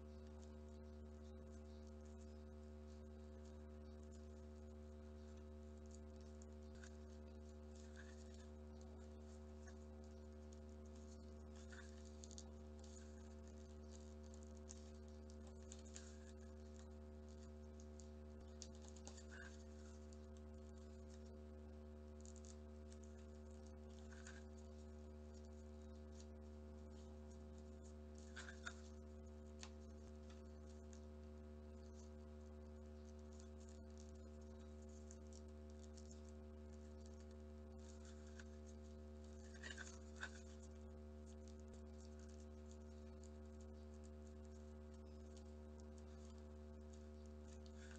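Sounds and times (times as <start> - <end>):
steady low hum: 0.0 - 47.9
soft scratches: 0.2 - 31.0, 32.9 - 47.9.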